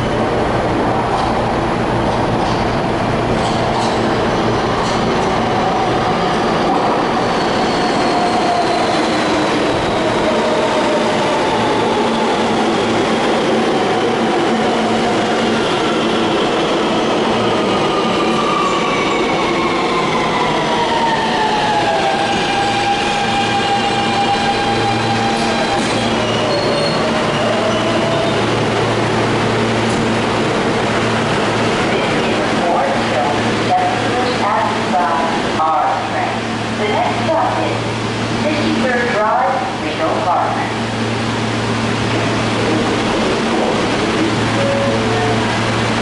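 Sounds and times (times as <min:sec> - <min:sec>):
subway train braking: 0:00.0 - 0:46.0.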